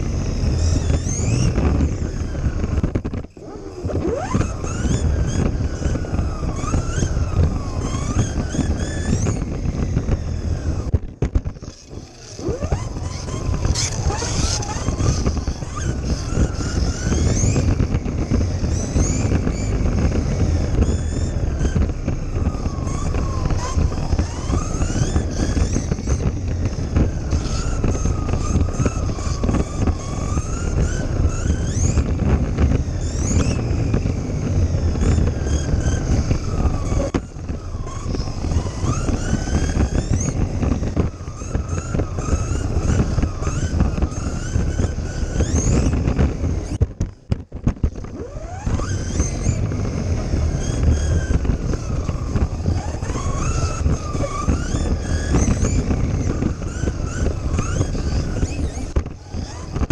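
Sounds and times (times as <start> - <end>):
small electric motor whining: 0.0 - 47.2, 47.8 - 59.9
rumble of wheels and wind: 0.0 - 59.9.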